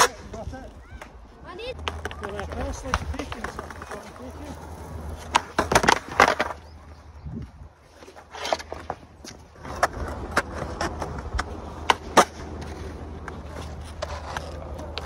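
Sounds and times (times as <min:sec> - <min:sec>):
skateboard wheels on rough concrete: 0:00.0 - 0:15.0
skateboard clacks: 0:01.0 - 0:06.6, 0:08.4 - 0:15.0.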